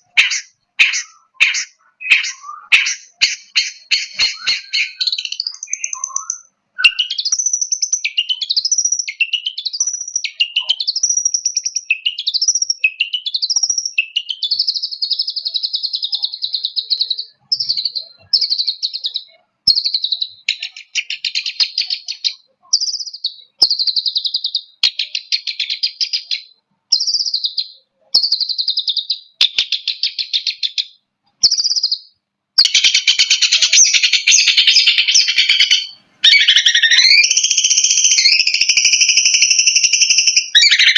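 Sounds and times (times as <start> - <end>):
shrike singing: 0.0 - 40.9.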